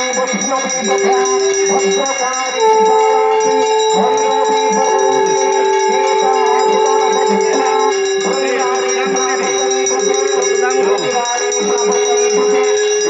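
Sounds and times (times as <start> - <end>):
temple bells ringing: 0.0 - 13.0.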